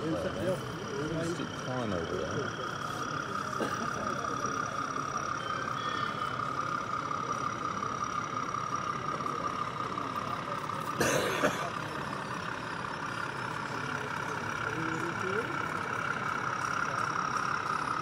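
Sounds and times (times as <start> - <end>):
crowd chatter in a hall: 0.0 - 18.0
model locomotive engine sound: 0.0 - 18.0.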